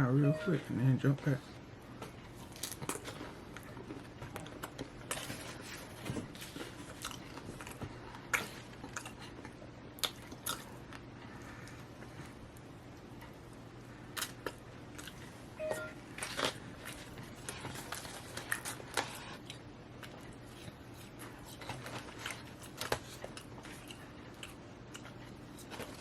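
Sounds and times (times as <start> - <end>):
faint low hum: 0.0 - 26.0
chewing crunchy fried food: 2.0 - 26.0.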